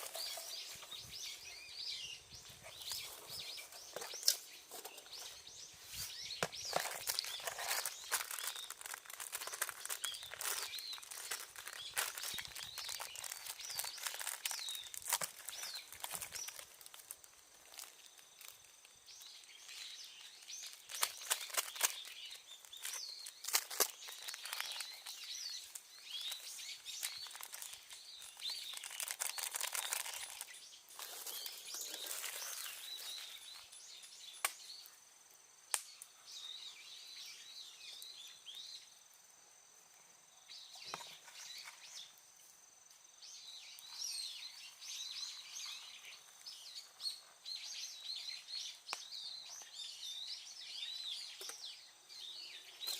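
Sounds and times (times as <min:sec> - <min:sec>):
small birds chirping: 0:00.0 - 0:39.0, 0:39.9 - 0:52.9.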